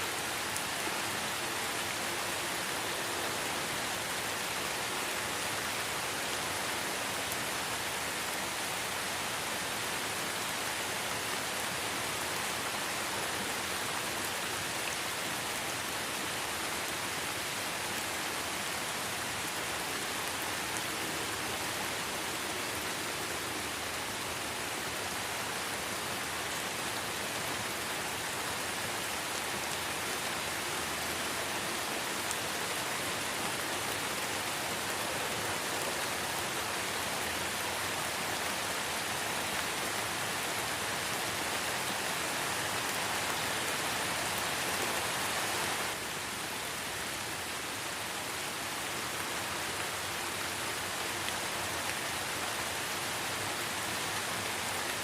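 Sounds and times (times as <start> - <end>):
light rain hissing: 0.0 - 55.0.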